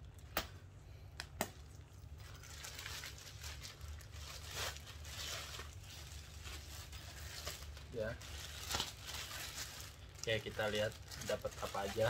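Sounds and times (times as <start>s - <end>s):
bag and plastic wrapping crinkling: 1.7s - 12.0s.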